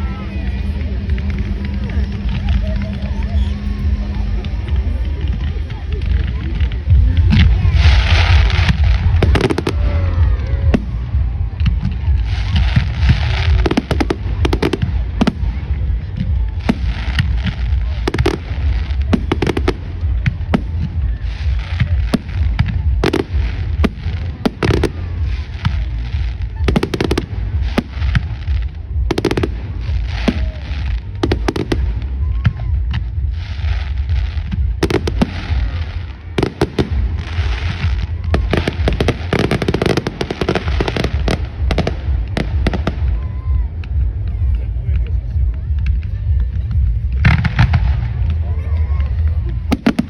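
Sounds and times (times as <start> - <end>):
fireworks bangs and cracks: 0.0 - 50.0
steady low rumble: 0.0 - 50.0.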